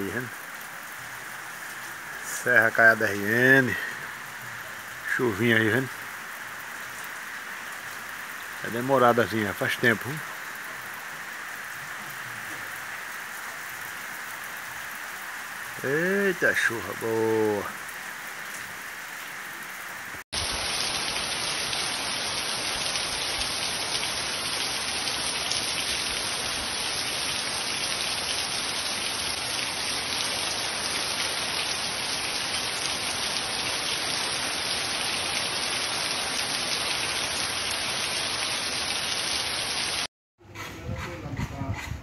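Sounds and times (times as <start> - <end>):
heavy rain: 0.0 - 40.1.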